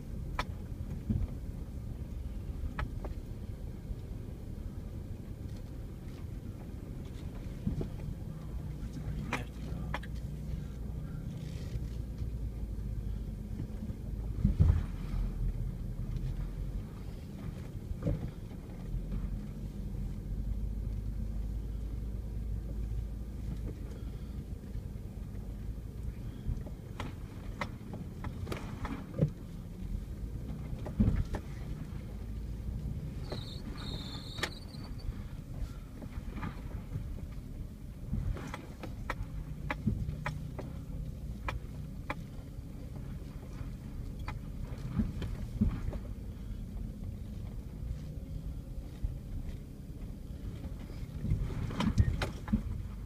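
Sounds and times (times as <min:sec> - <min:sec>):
vehicle engine running low: 0:00.0 - 0:53.0.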